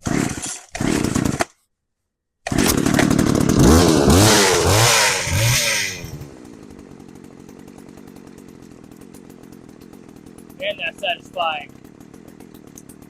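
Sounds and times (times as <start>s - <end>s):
chainsaw engine revving and idling: 0.0s - 1.5s, 2.5s - 13.0s.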